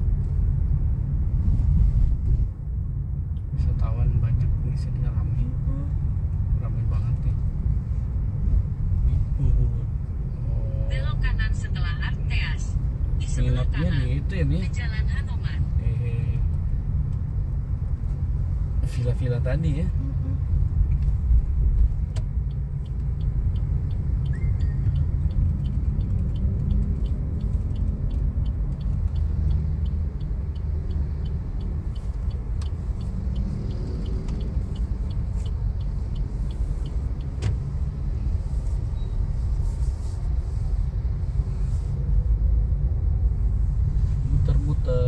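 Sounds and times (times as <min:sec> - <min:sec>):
car engine and road rumble: 0:00.0 - 0:45.0
turn signal ticking: 0:02.6 - 0:10.3, 0:10.9 - 0:45.0.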